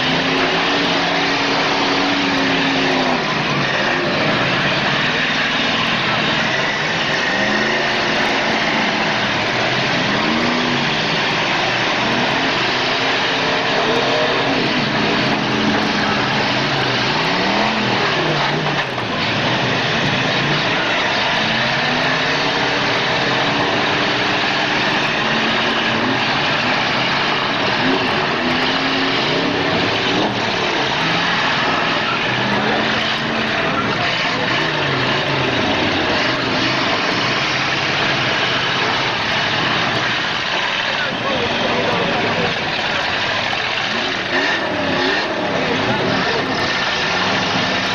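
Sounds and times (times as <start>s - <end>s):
car engines revving hard: 0.0s - 47.9s.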